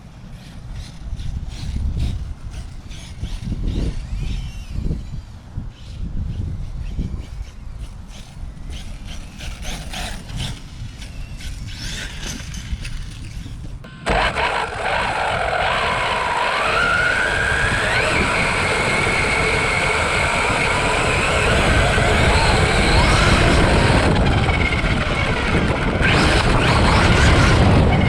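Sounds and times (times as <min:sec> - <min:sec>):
high-pitched electric motor whine: 0:00.0 - 0:28.0
wind rumble on microphone: 0:00.0 - 0:28.0.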